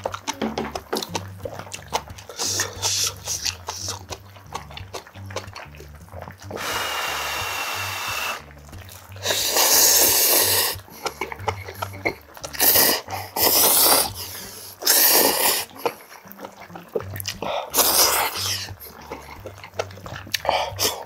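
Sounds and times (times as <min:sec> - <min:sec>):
noodles being slurped: 0:00.0 - 0:21.0.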